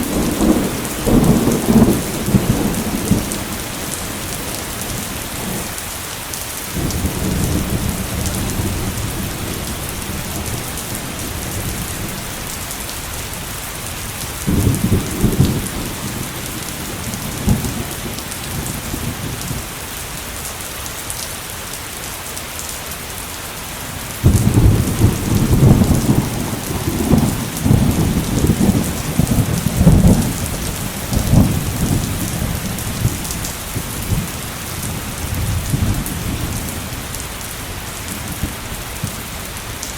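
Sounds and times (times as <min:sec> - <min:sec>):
thunder rumbling: 0:00.0 - 0:05.8, 0:06.7 - 0:19.7, 0:24.2 - 0:39.9
heavy rain falling: 0:00.0 - 0:39.9.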